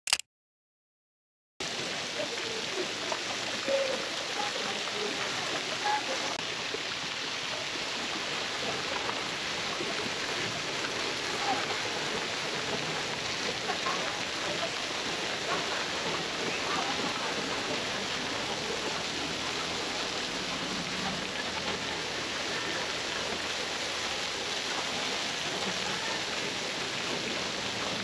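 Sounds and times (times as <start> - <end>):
water rushing: 1.6 - 28.0.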